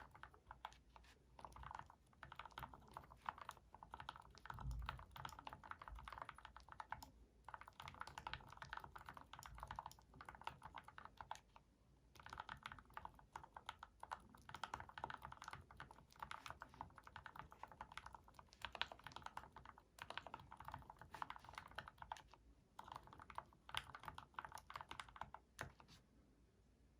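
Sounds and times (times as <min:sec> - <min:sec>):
mechanical keyboard typing: 0:00.0 - 0:26.0.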